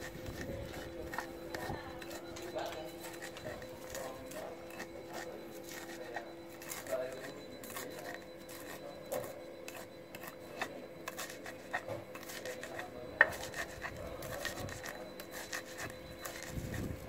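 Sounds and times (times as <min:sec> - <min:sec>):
stone pestle grinding: 0:00.0 - 0:17.0.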